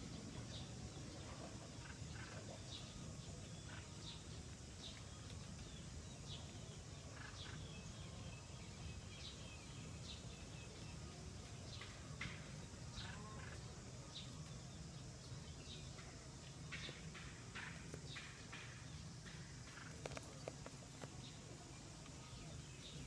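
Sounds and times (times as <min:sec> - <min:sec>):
low background hiss: 0:00.0 - 0:23.0
small birds chirping faintly: 0:00.0 - 0:23.0.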